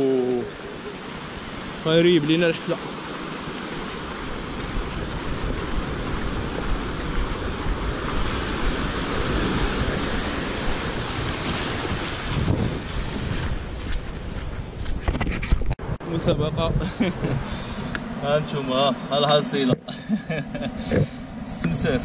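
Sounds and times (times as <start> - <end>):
waves breaking on a beach: 0.0 - 22.0
wind rumbling on microphone: 0.5 - 18.6.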